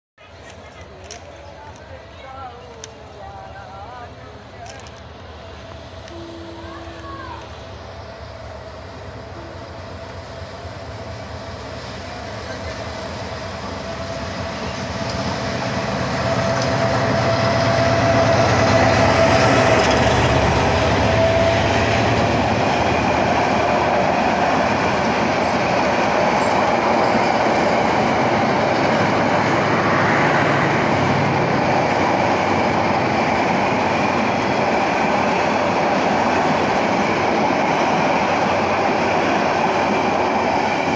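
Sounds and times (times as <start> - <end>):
locomotive engine drone: 0.2 - 40.9
train wheels rumbling and clattering: 0.2 - 40.9.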